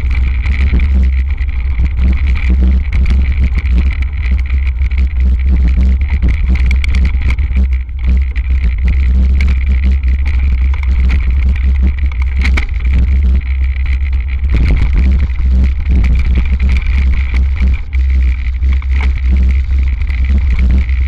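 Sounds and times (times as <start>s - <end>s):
bike rattling and knocking: 0.0s - 21.0s
wind rumble on camera: 0.0s - 21.0s.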